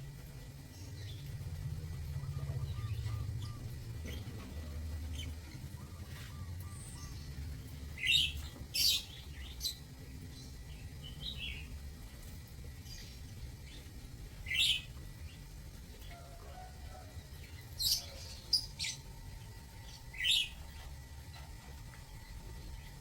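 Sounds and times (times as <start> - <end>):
low steady hum: 0.0 - 23.0
lovebirds chirping: 0.6 - 23.0.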